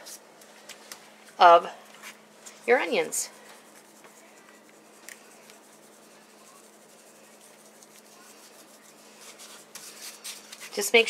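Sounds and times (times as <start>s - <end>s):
low steady hum: 0.0s - 11.0s
spice rub rustling onto chicken: 2.0s - 11.0s.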